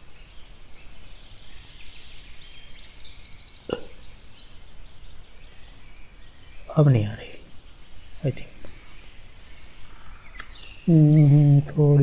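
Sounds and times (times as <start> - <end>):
birds chirping: 0.0 - 12.0
steady hiss: 0.0 - 12.0.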